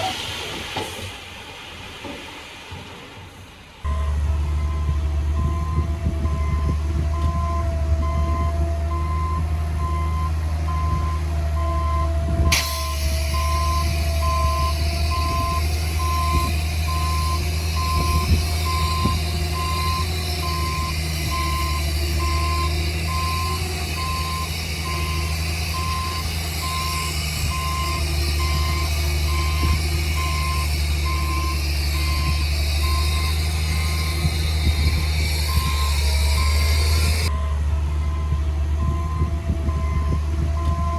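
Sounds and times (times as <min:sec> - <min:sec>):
heavy diesel machinery running: 0:00.0 - 0:40.9
reversing alarm beeping: 0:03.9 - 0:40.9.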